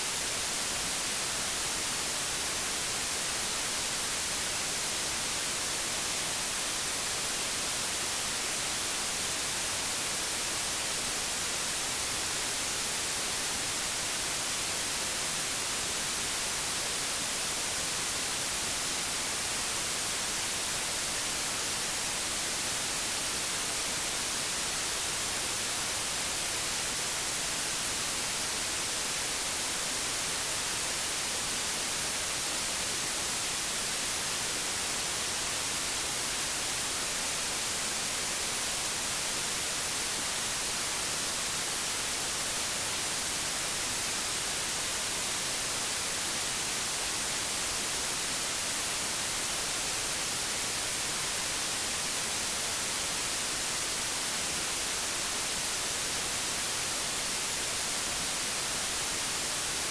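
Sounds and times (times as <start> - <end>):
television static hiss: 0.0 - 59.9.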